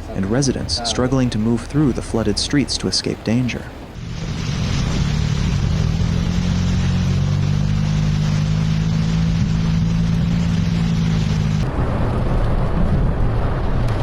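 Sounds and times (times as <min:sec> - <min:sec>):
floodwater rushing hiss: 0:00.0 - 0:11.6
engine running: 0:00.0 - 0:14.0.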